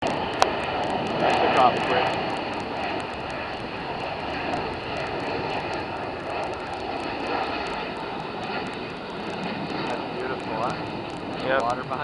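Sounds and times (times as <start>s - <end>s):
jet engines roaring with whine: 0.0s - 12.0s.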